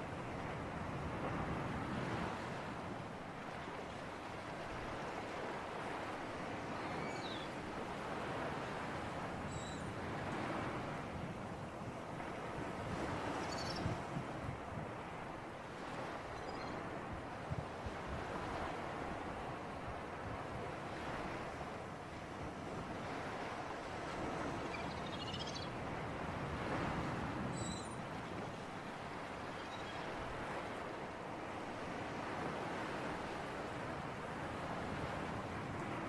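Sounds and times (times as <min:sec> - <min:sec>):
waves washing: 0:00.0 - 0:36.0
wind: 0:00.0 - 0:36.0.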